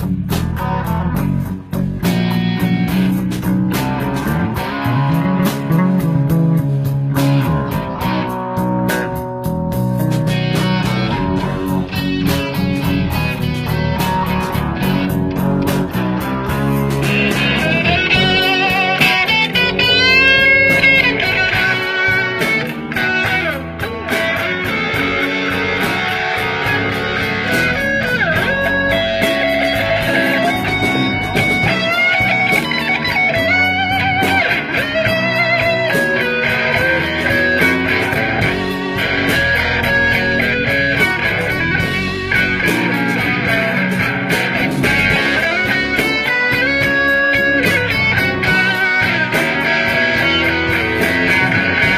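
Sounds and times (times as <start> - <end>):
electric guitar lead: 0.0 - 51.9
slow blues band: 0.0 - 51.9.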